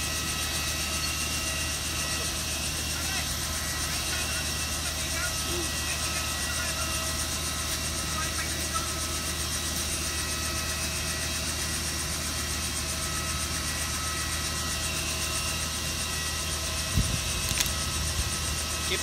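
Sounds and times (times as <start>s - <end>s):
helicopter engine idling: 0.0s - 19.0s.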